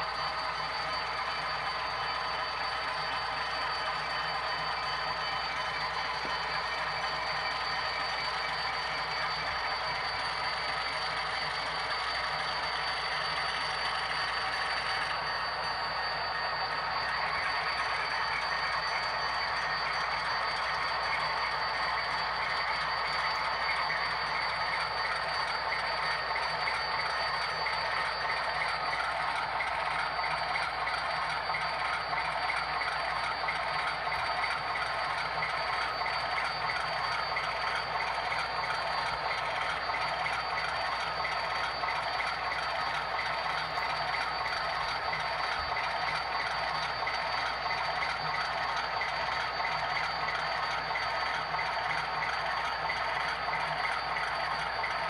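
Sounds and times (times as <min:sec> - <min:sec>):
motor and gearing whirring: 0:00.0 - 0:55.0.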